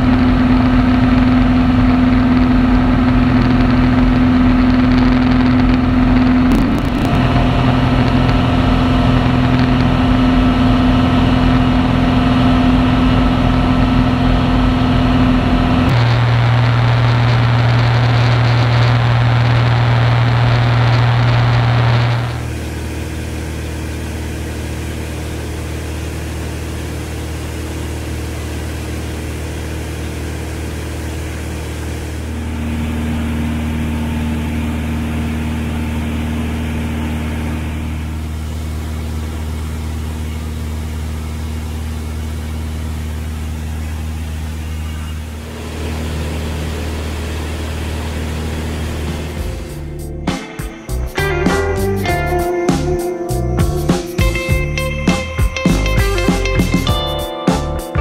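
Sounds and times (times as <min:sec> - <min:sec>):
light aircraft engine droning: 0:00.0 - 0:57.4.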